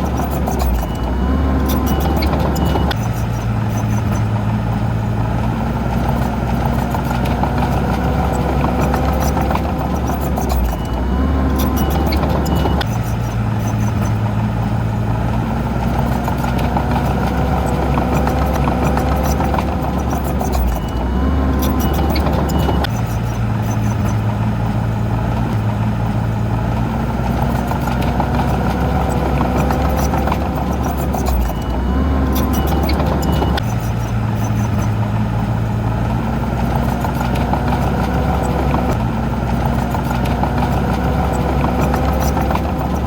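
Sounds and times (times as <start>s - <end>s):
diesel machinery engine hum: 0.0s - 43.0s.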